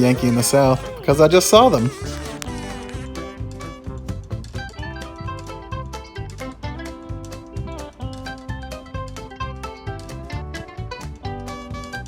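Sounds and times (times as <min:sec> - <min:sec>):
music with plucked strings: 0:00.0 - 0:12.0.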